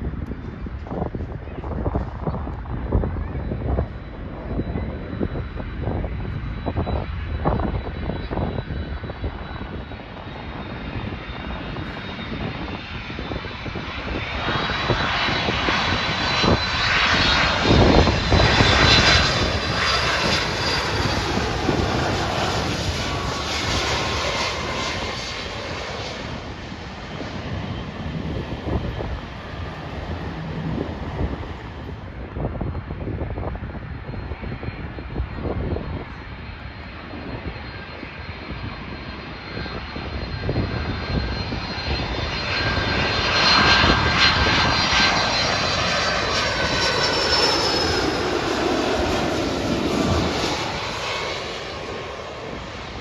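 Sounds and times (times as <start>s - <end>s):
jet aircraft passing overhead: 0.0s - 53.0s.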